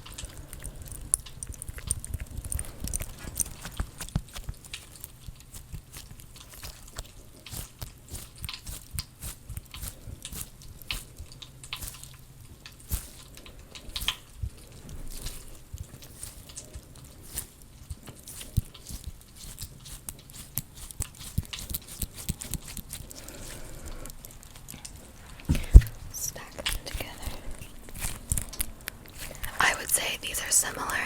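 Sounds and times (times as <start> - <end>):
squishy toys sticky clicks: 0.0 - 30.0.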